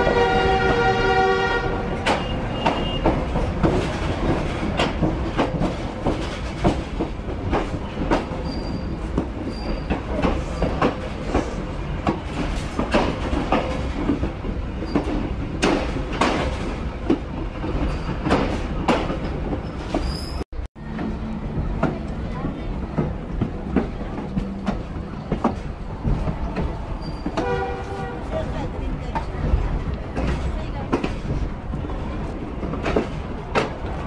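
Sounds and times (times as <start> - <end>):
train rumbling: 0.0 - 34.0
wheels clacking over rail joints: 0.0 - 34.0.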